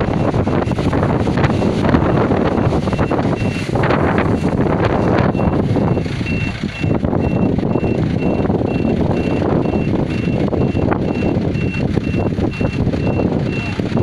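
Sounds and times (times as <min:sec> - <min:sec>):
strong wind buffeting microphone: 0:00.0 - 0:14.0
vehicle reversing alarm beeping: 0:00.0 - 0:14.0.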